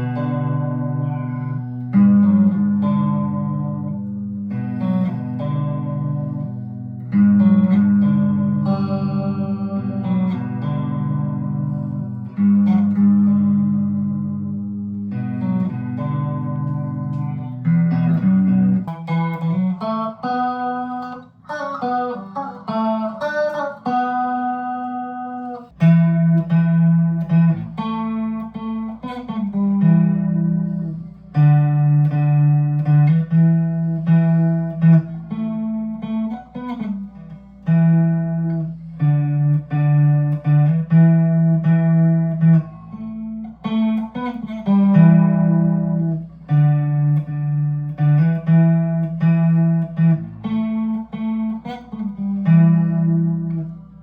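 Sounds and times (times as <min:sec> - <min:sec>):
electric guitar through an amp: 0:00.0 - 0:54.0.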